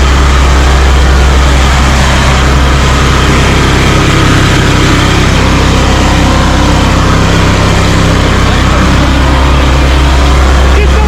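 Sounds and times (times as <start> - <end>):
stump grinder engine running: 0.0 - 11.0.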